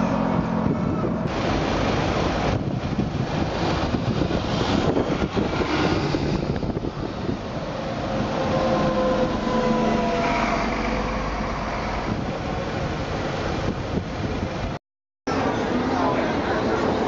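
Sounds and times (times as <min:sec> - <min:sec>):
buses driving past: 0:00.0 - 0:14.7.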